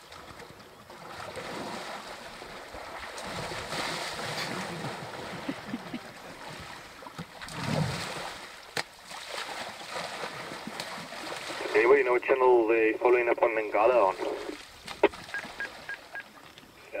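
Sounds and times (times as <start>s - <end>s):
water splashing and sloshing: 0.0s - 12.4s, 13.1s - 16.8s.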